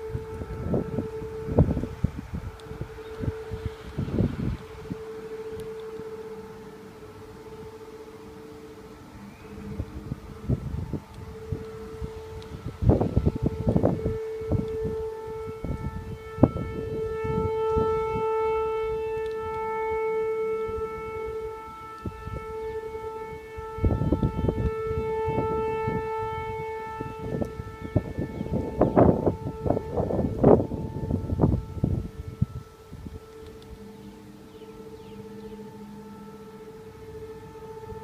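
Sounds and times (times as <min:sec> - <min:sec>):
droning siren-like tone: 0:00.0 - 0:38.0.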